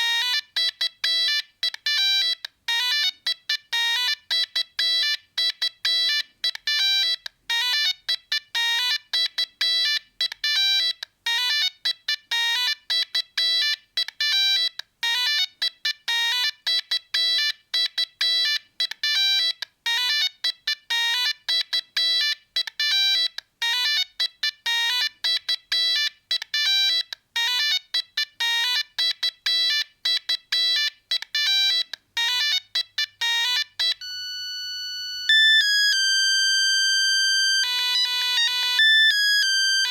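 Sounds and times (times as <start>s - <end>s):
mobile phone ringtone: 0.0s - 39.9s.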